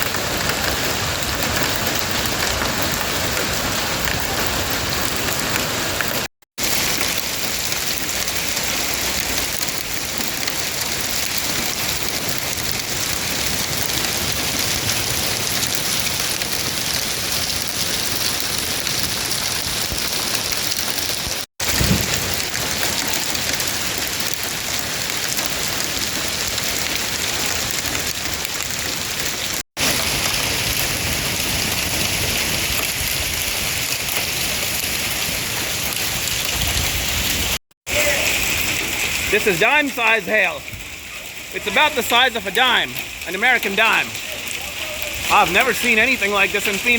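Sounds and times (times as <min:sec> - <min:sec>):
heavy rain pounding: 0:00.0 - 0:46.9.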